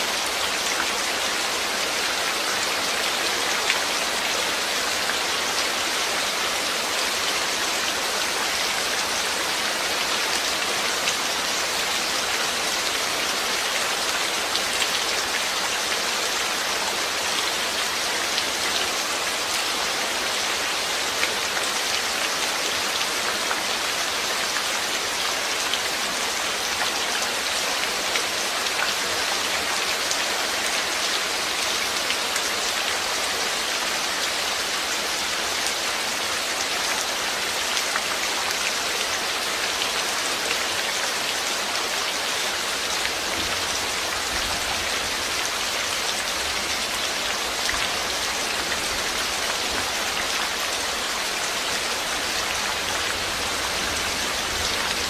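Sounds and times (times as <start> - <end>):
rain pattering on surfaces: 0.0 - 55.0.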